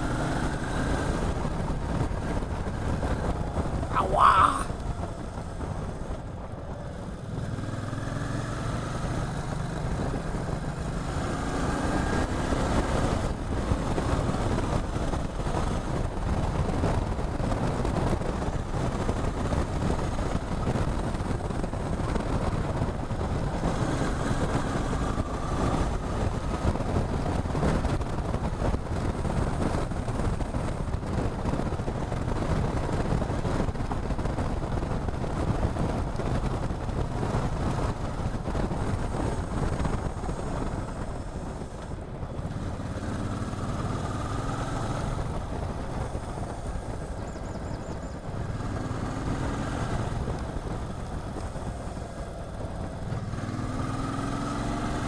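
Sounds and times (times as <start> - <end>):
motorcycle engine: 0.0 - 55.0
wind and road rush: 0.0 - 55.0.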